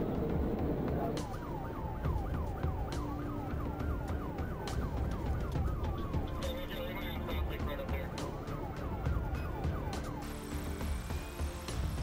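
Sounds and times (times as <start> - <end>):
road and engine noise: 0.0 - 12.0
police siren yelping: 0.8 - 11.2
siren wailing tone: 0.8 - 11.3.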